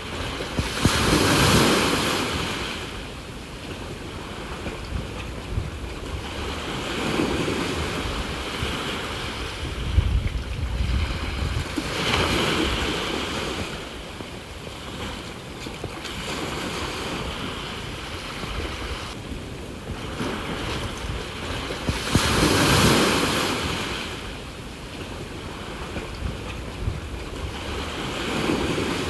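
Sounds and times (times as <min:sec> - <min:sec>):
sea waves washing onto shore: 0:00.0 - 0:29.0
wind rumble on microphone: 0:00.0 - 0:29.0.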